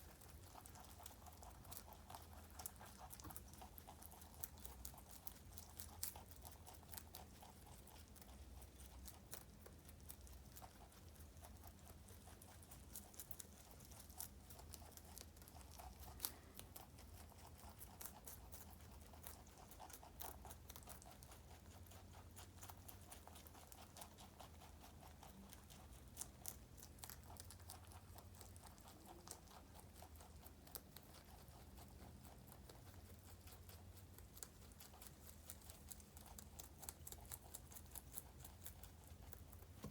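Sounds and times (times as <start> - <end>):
rabbits chewing lettuce: 0.0 - 39.9.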